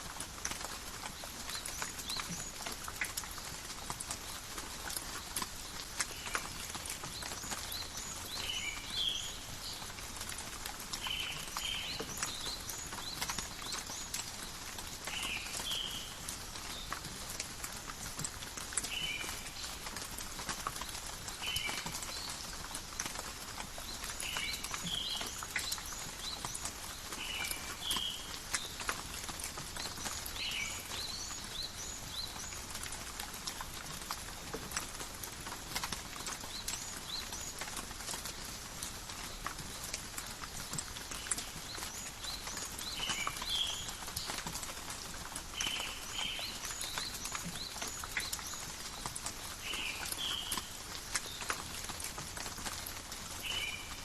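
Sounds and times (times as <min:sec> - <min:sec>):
rain falling in a forest: 0:00.0 - 0:54.0
water drips and patters: 0:00.0 - 0:54.0.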